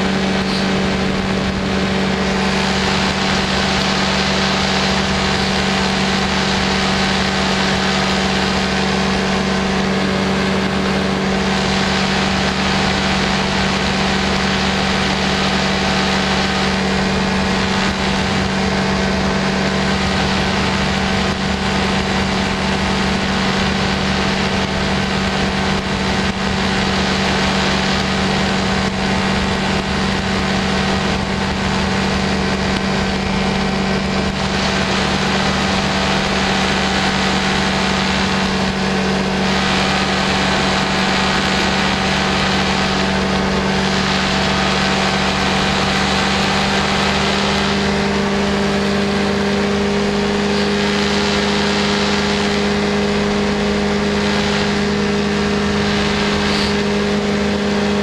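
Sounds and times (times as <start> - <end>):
light aircraft engine drone: 0.0 - 58.0
rushing air: 0.0 - 58.0.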